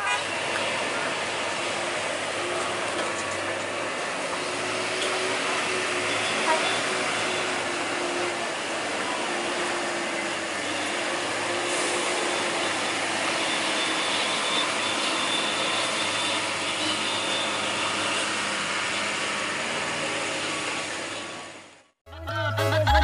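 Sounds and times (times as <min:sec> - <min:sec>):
truck diesel engine straining: 0:00.0 - 0:23.0.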